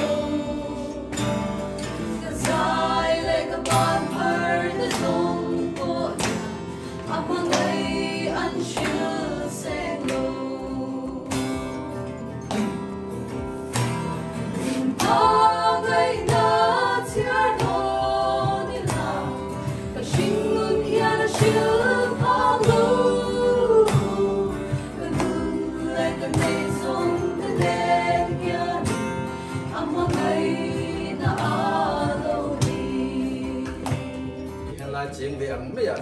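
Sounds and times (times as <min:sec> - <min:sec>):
women singing gospel: 0:00.0 - 0:11.9, 0:14.6 - 0:34.4
strummed acoustic guitar: 0:00.0 - 0:36.0.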